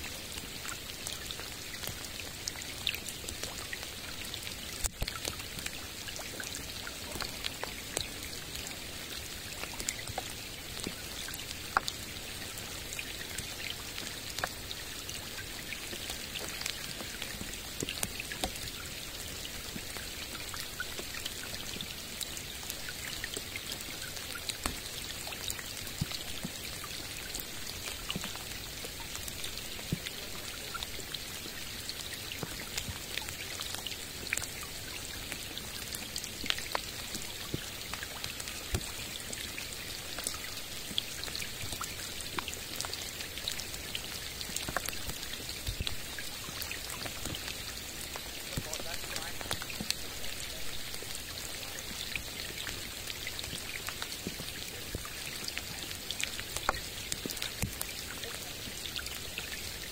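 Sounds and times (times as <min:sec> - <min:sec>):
rain hissing on water: 0:00.0 - 0:59.9
raindrops ticking: 0:00.0 - 0:59.9.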